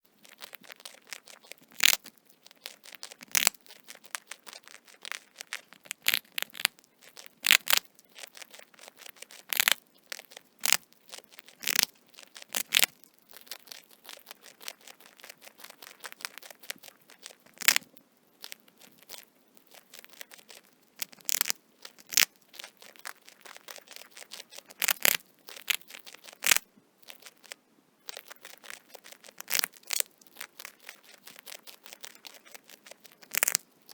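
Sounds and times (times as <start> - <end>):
rat gnawing food: 0.0 - 33.9.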